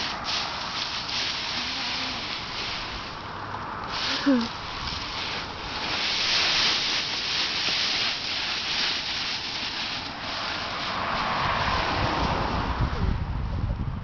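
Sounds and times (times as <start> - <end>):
dry leaves rustling and crunching: 0.0 - 12.2.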